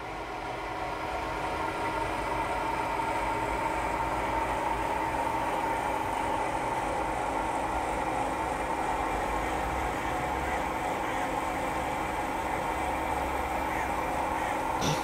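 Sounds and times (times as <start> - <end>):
locomotive mechanical drone: 0.0 - 15.0.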